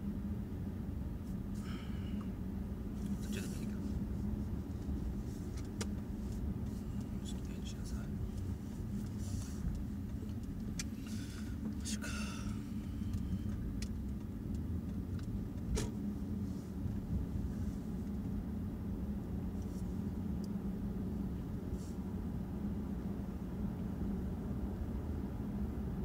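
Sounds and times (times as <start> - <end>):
low rumble and hum: 0.0 - 26.0.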